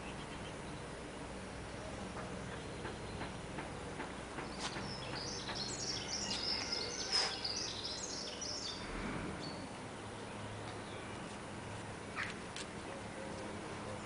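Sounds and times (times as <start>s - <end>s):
songbird chirping: 0.0s - 14.0s
steady background hum: 0.0s - 14.0s.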